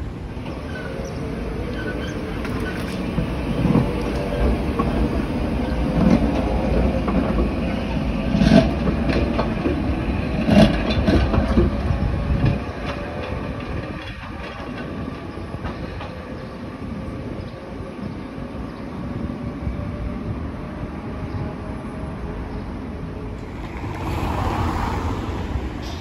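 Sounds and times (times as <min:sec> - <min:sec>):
tram rolling past: 0:00.0 - 0:26.0.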